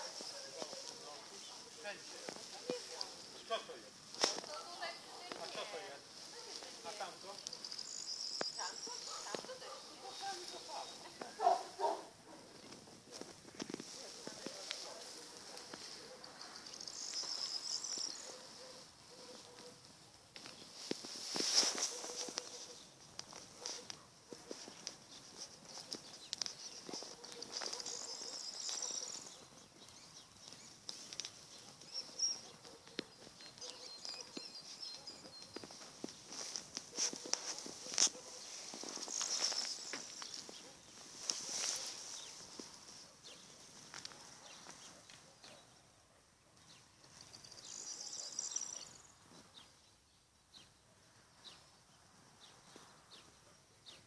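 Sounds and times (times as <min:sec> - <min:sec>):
songbirds chirping: 0:00.0 - 0:54.0
birds singing: 0:00.1 - 0:12.7, 0:14.0 - 0:20.9, 0:21.7 - 0:54.0.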